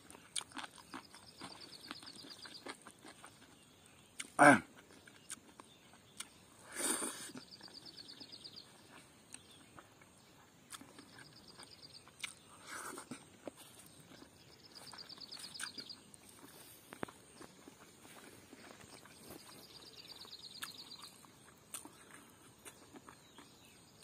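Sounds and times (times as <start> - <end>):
chewing and smacking: 0.0 - 6.6, 7.3 - 24.0.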